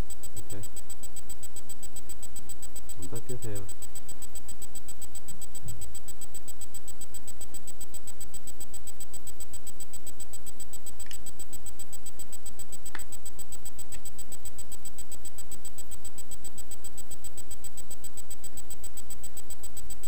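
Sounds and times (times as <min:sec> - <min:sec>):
electrical hum and whine: 0:00.0 - 0:20.0.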